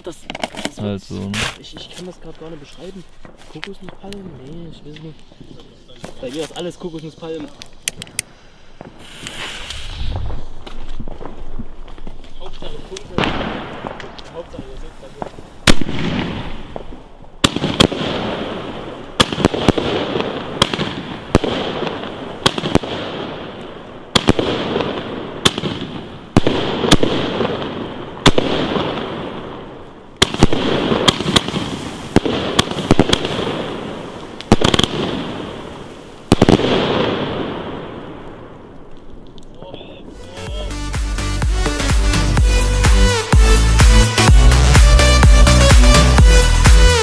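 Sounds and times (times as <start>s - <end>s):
firework shots banging and hissing: 0.1s - 40.7s.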